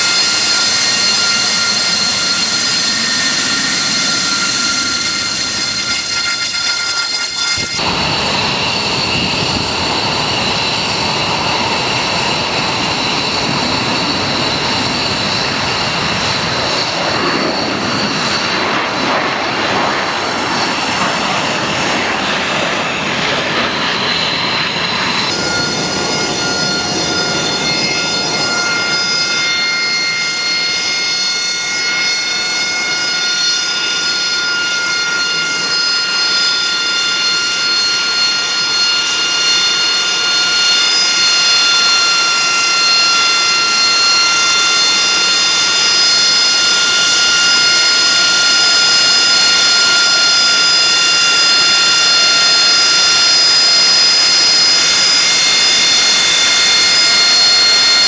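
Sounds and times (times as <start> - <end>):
high-pitched turbine whine: 0.0 - 58.0
jet engine rushing and whining: 0.0 - 58.0.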